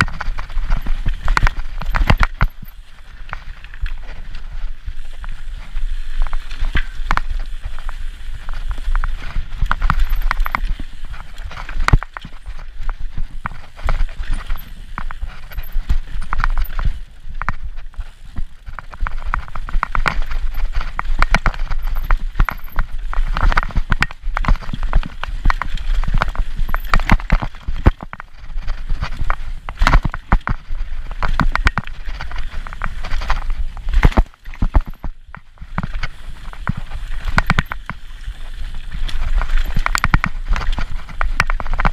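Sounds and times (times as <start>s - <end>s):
bike chain and frame rattling: 0.0s - 41.9s
bike tyres knocking over stones: 0.0s - 41.9s
wind rumble on microphone: 0.0s - 41.9s.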